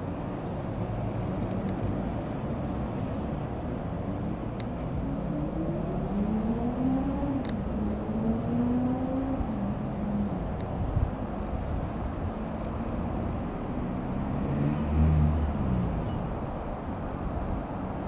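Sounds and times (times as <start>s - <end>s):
light aircraft engine droning: 0.0s - 14.5s.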